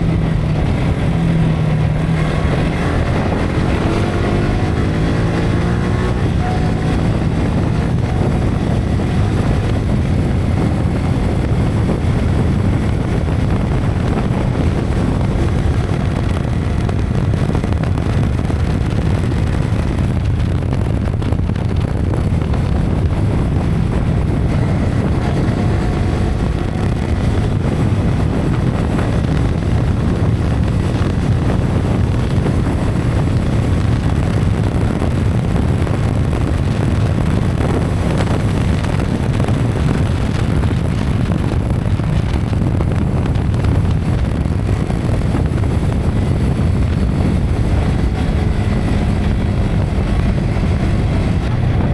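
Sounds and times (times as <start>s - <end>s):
faint motorcycle engine: 0.0s - 51.9s
wind buffeting microphone: 0.0s - 51.9s.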